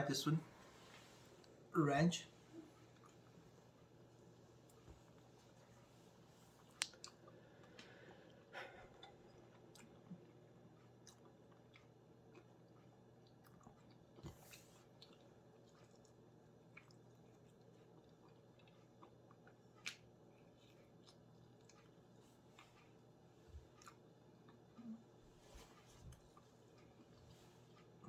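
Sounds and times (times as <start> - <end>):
faint chewing: 2.4 - 28.0.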